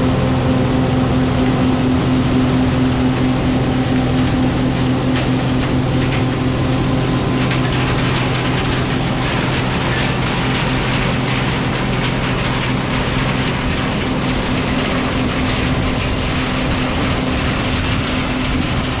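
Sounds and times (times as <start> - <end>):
combine harvester engine humming: 0.0 - 19.0
rush of machinery noise: 0.0 - 19.0.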